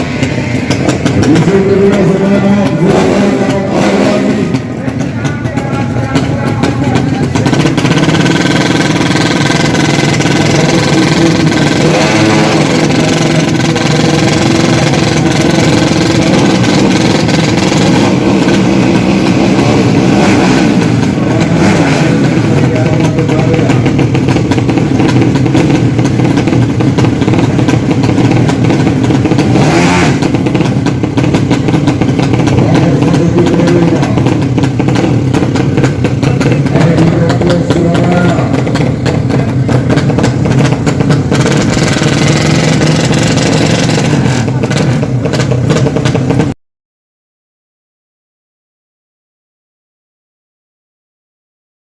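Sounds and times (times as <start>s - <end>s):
motorcycle engines revving: 0.0s - 46.6s.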